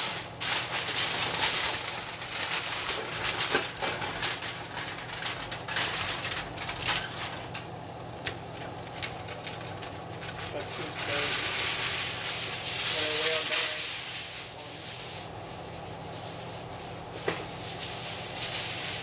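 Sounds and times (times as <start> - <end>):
aluminium foil crinkling: 0.0 - 19.0.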